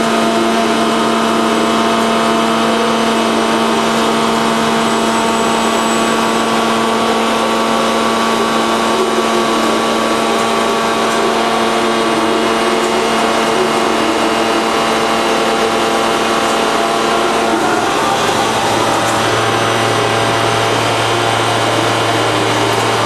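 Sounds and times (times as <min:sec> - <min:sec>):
lathe machinery humming: 0:00.0 - 0:23.0.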